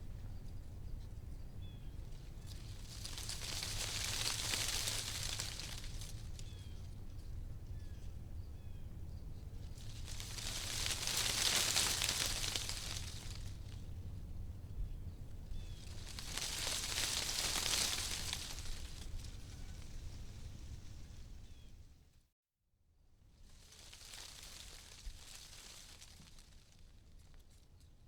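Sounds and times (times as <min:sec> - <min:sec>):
wind rustling tree leaves: 0:01.4 - 0:22.1, 0:23.3 - 0:27.6.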